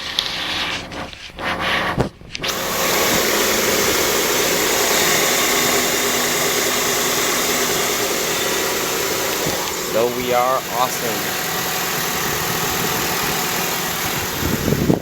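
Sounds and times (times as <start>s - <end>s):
car engine idling: 2.4s - 15.0s
loud steady whirring rush: 2.4s - 15.0s.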